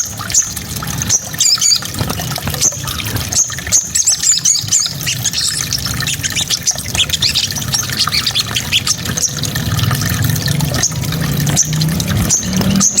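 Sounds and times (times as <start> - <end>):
songbird chirping and twittering: 0.2 - 9.9, 10.6 - 13.0.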